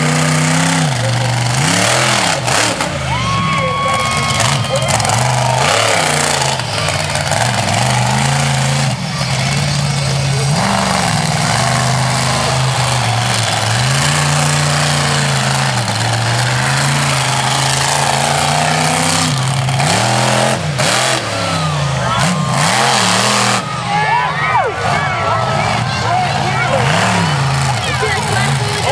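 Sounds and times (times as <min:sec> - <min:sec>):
monster truck engine revving: 0:00.0 - 0:28.9.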